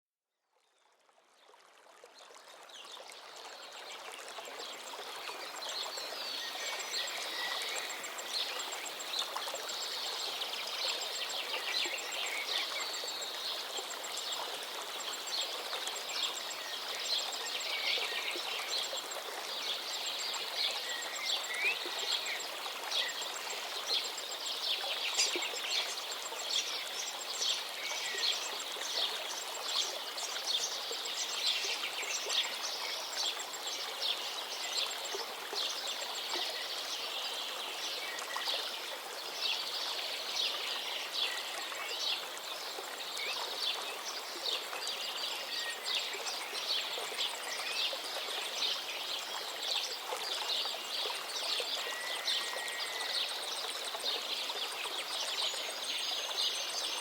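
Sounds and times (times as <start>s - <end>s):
flowing river water: 0.4s - 57.0s.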